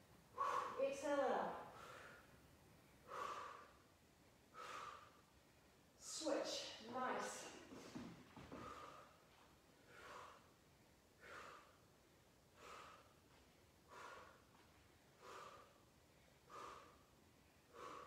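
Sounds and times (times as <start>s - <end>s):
person breathing while exercising: 0.3s - 0.8s, 1.6s - 5.9s, 7.3s - 18.0s.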